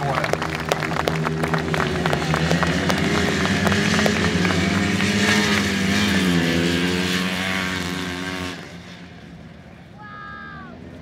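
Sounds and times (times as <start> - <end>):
off-road motorcycle engines: 0.0 - 11.0.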